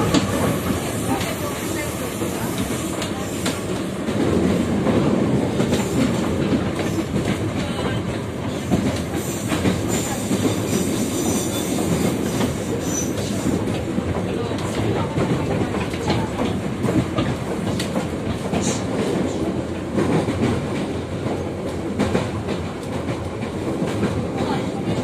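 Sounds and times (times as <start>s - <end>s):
clickety-clack over rail joints: 0.0s - 25.0s
train wheels rumbling on rail: 0.0s - 25.0s.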